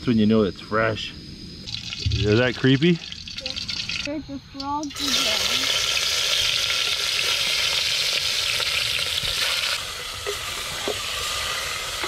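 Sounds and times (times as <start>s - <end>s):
frog legs frying sizzle: 1.7s - 4.1s, 4.7s - 12.0s.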